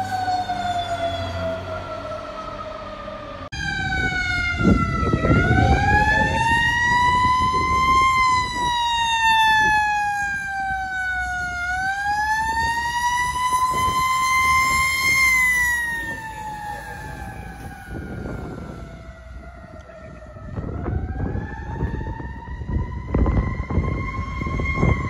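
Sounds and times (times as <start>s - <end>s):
fire engine siren wailing: 0.0s - 25.0s.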